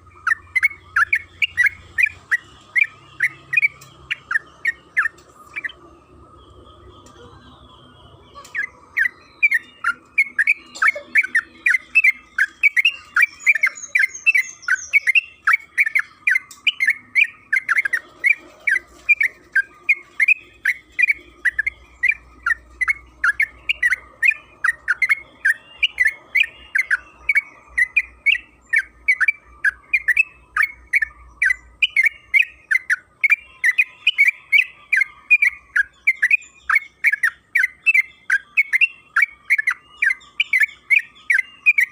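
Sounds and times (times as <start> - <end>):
bulbul chattering song: 0.0 - 41.9.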